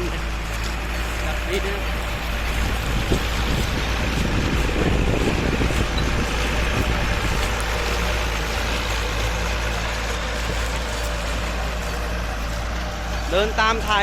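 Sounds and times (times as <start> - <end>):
tractor engine running under load: 0.0 - 14.0.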